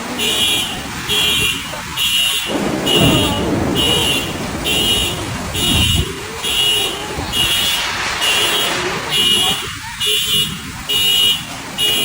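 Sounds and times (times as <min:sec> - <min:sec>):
wind-driven rain hiss: 0:00.0 - 0:12.0
wind gusts buffeting microphone: 0:00.1 - 0:11.8.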